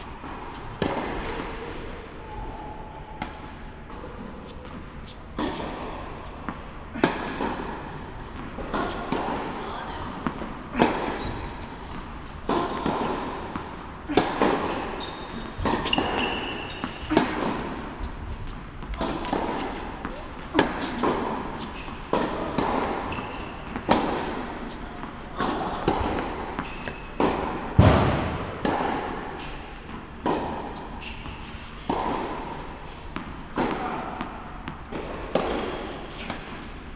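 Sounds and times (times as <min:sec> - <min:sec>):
tennis balls bouncing on court: 0:00.0 - 0:01.8, 0:03.2 - 0:36.9
tennis balls hit by rackets: 0:00.0 - 0:02.0, 0:03.1 - 0:36.9.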